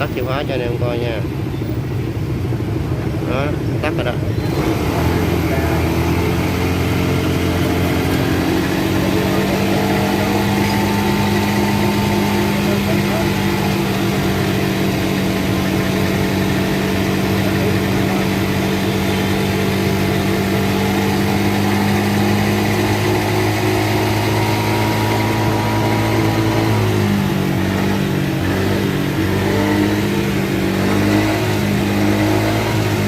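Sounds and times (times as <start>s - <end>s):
scooter engine idling: 0.0s - 32.2s.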